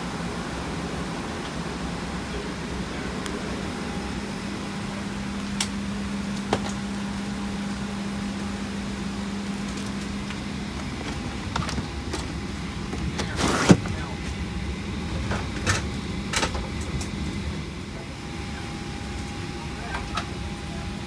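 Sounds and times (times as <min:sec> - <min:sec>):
cabin ventilation hiss and hum: 0:00.0 - 0:21.0.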